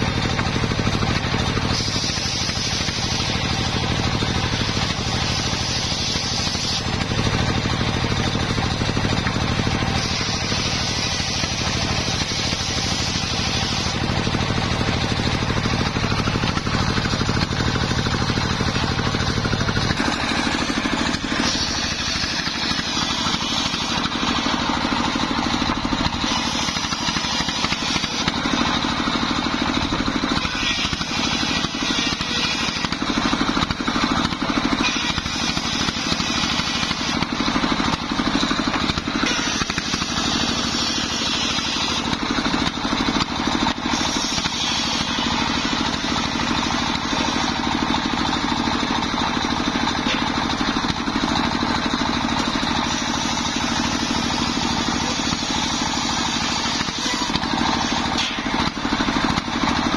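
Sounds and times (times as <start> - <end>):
circular saw cutting wood: 0.0 - 59.9
diesel engine running: 0.0 - 59.9.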